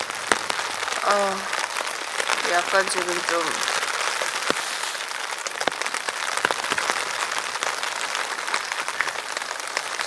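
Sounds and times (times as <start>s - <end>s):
rain pattering on tent: 0.0s - 10.0s.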